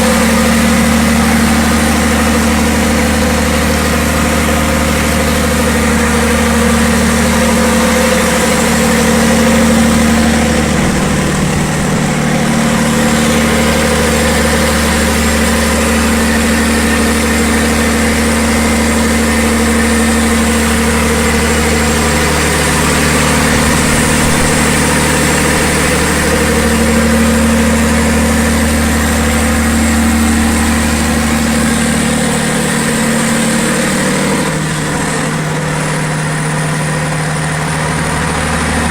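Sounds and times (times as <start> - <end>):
diesel generator engine drone: 0.0 - 38.9.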